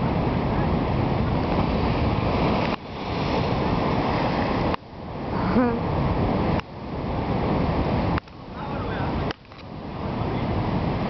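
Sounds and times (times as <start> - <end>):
surf breaking against rocks: 0.0 - 11.0
wind buffeting microphone: 0.0 - 11.0.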